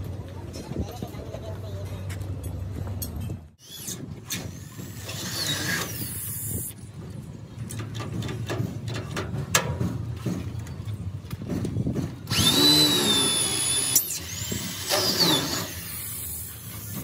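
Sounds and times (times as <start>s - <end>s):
metal and tools clanking: 1.9s - 17.0s.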